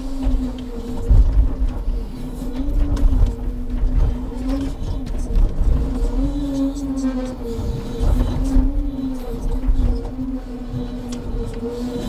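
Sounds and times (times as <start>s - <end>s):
truck engine and hydraulics hum: 0.0s - 12.0s.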